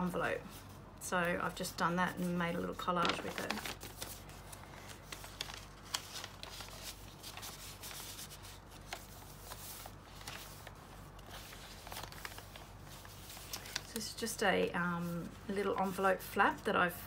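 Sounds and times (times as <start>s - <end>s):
paper pages rustling: 1.6s - 16.2s.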